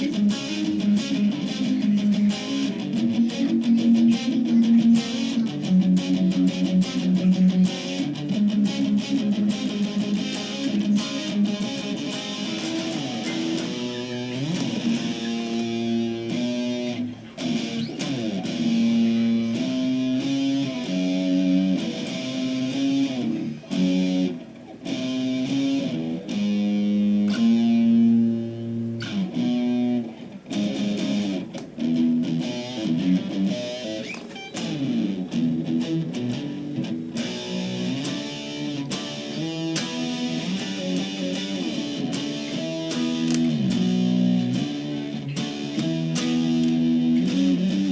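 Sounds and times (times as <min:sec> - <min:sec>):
overdriven electric guitar: 0:00.0 - 0:47.9.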